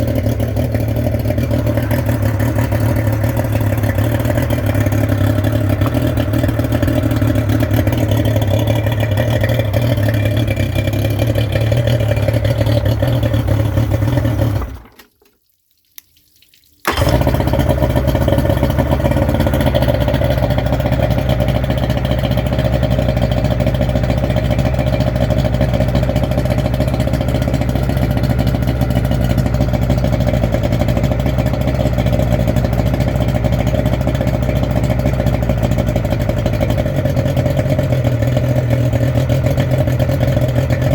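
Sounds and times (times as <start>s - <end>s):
outboard motor running: 0.0s - 15.0s, 16.9s - 40.9s.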